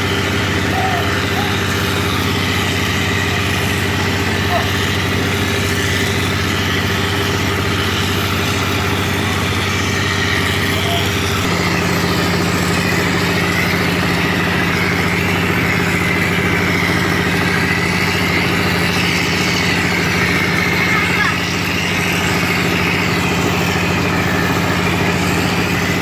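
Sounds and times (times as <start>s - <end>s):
plastering machine running: 0.0s - 26.0s.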